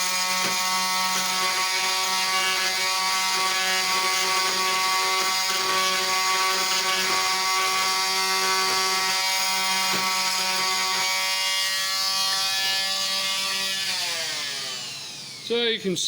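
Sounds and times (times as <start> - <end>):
oscillating saw cutting wood: 0.0 - 15.5.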